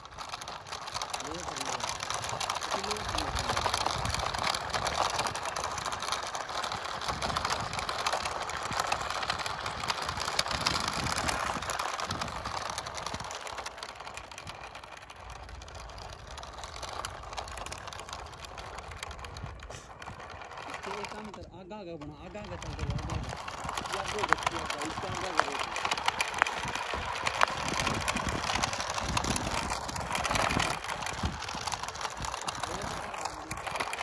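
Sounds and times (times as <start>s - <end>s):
toy truck motor whirring: 0.0s - 34.0s
tyres crunching gravel: 0.0s - 34.0s.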